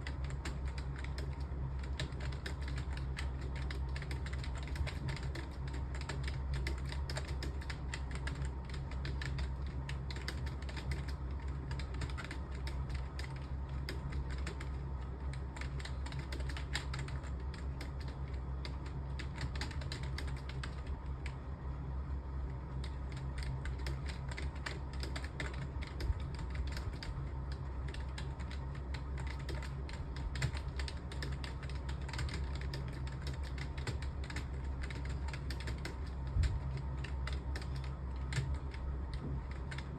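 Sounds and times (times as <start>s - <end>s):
fast typing on keyboard: 0.0s - 21.4s, 22.7s - 39.9s
steady low hum: 0.0s - 39.9s.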